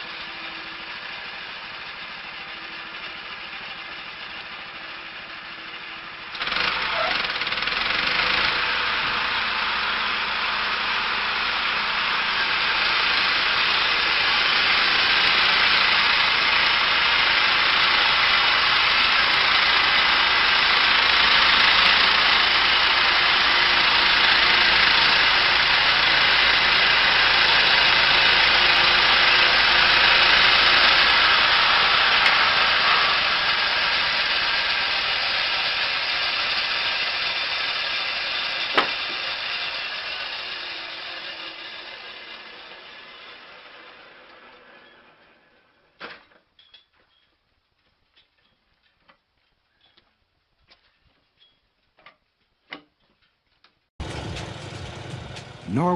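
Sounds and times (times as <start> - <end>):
large engine-driven machine running: 0.0 - 46.0, 54.0 - 55.9.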